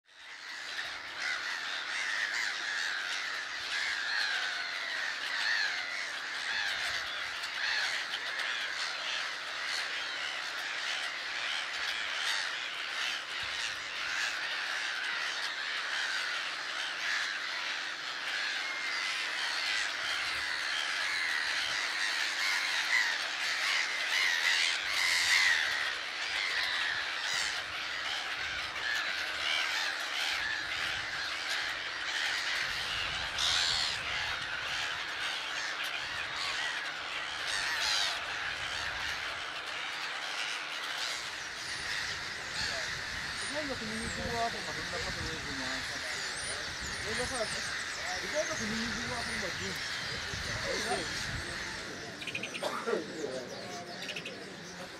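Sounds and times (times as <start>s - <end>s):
gull colony calling: 0.1s - 54.9s.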